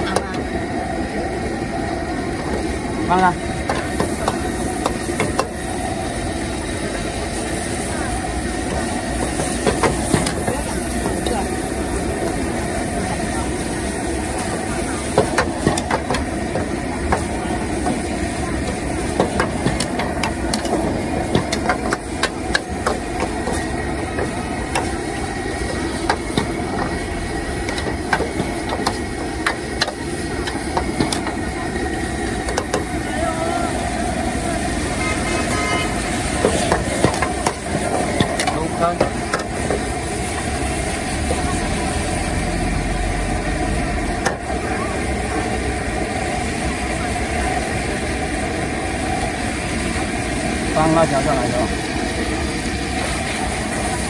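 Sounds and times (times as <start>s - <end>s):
gas burner and frying rushing: 0.0s - 54.0s.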